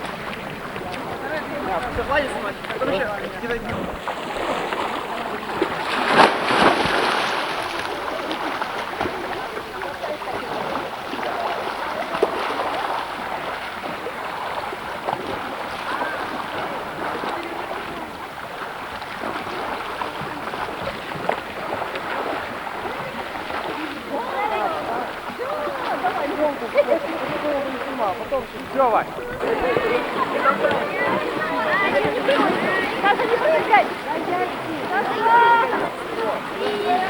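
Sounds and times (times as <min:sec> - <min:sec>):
sea water sloshing and splashing: 0:00.0 - 0:37.0.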